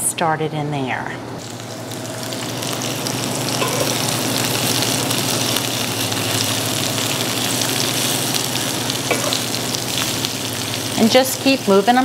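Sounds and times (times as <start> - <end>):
onions sizzling in a frying pan: 1.4 - 12.0.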